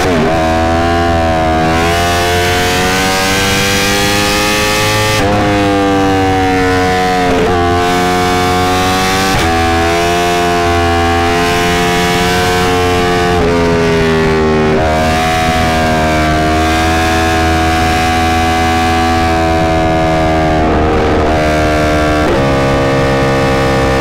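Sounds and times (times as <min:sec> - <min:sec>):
motorcycle engine at speed: 0:00.0 - 0:24.0.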